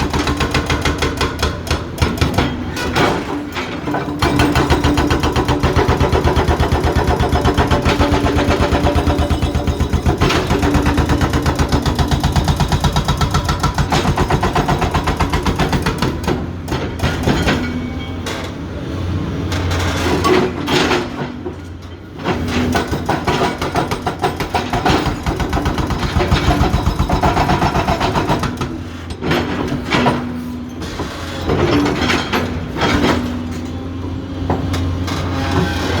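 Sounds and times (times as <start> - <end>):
hydraulic breaker hammering rock: 0.0 - 17.9, 22.3 - 33.8.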